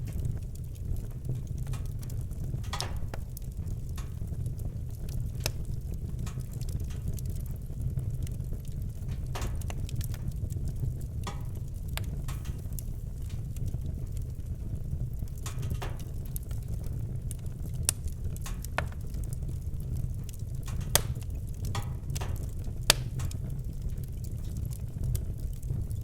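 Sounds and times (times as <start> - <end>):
fire crackles and pops: 0.0 - 26.0
wood fire rumbling: 0.0 - 26.0.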